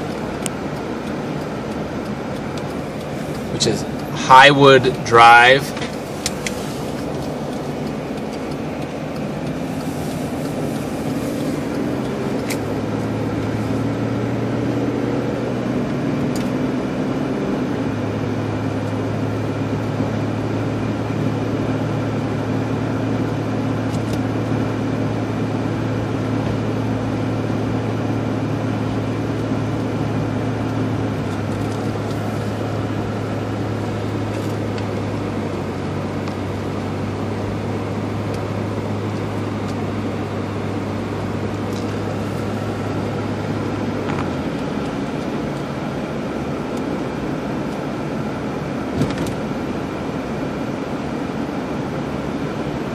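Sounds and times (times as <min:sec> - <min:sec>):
car engine hum: 0:00.0 - 0:52.9
road and tyre noise: 0:00.0 - 0:52.9.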